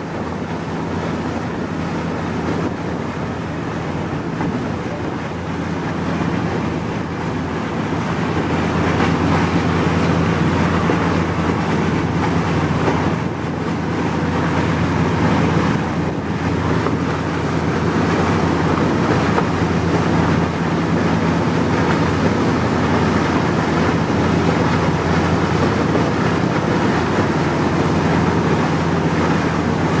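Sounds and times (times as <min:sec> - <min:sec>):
boat engine drone: 0:00.0 - 0:30.0
rush of wind and water: 0:00.0 - 0:30.0.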